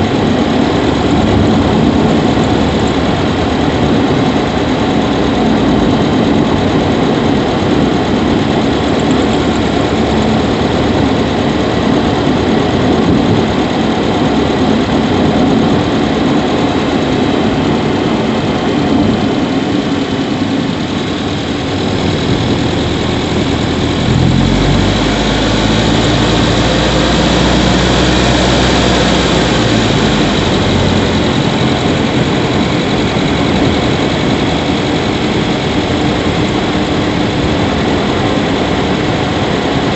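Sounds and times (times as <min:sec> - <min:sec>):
car engine running: 0:00.0 - 0:39.9
pitched engine drone: 0:00.0 - 0:39.9.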